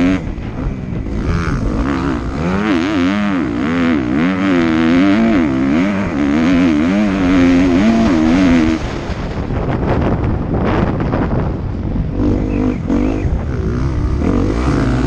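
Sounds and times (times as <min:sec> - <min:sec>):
motocross bike engine revving: 0:00.0 - 0:09.4, 0:12.0 - 0:15.0.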